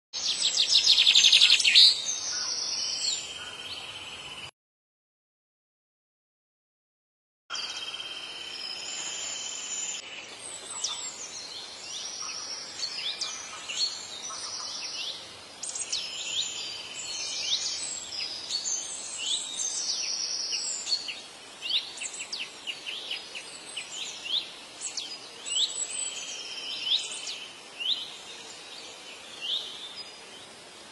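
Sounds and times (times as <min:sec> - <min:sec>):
birds chirping: 0:00.2 - 0:04.5, 0:07.5 - 0:30.9.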